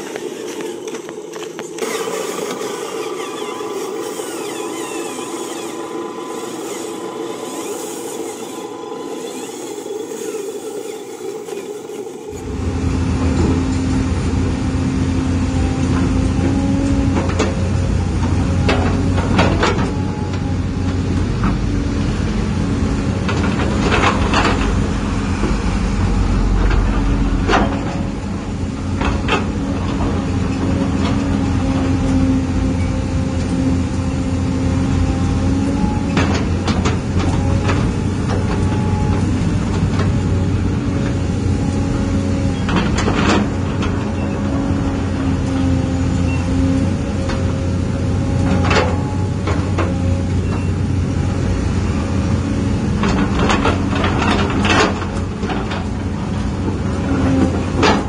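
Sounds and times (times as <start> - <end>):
low hum: 0.0 - 52.1
hydraulic pump whining: 0.0 - 58.0.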